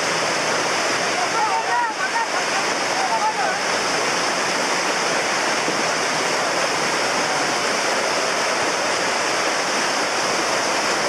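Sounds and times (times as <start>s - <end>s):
floodwater rushing over rocks: 0.0s - 11.0s.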